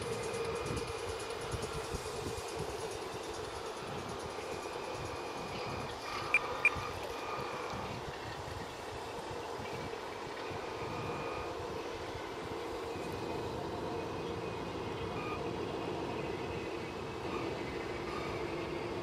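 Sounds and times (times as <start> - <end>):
faint high whining tones: 0.0 - 19.0
steady mechanical hum: 0.0 - 19.0.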